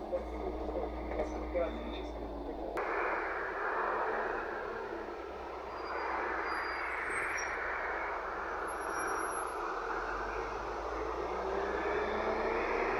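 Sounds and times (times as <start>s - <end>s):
bus pulling away: 0.0s - 12.9s.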